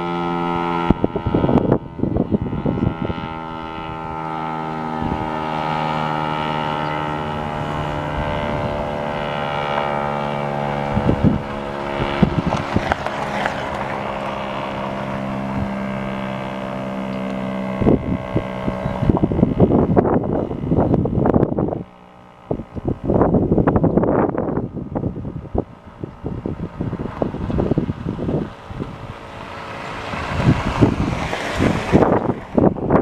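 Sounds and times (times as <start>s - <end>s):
loud steady siren tone: 0.0s - 33.0s
rumbling noise bursts on microphone: 0.0s - 33.0s.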